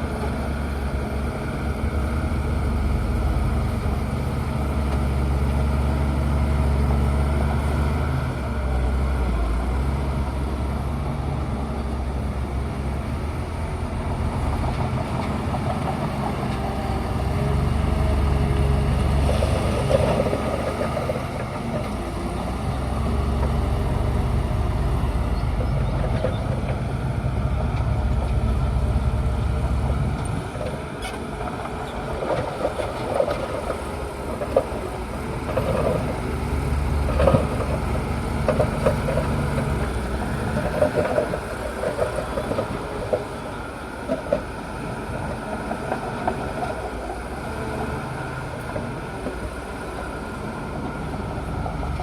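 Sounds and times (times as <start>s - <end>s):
bulldozer diesel engine drone: 0.0s - 52.0s.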